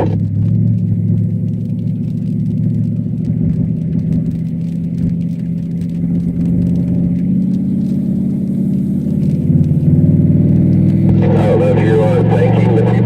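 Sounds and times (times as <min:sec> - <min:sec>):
faint light ticking: 0:00.0 - 0:12.1
car engine drone from cabin: 0:00.0 - 0:13.0.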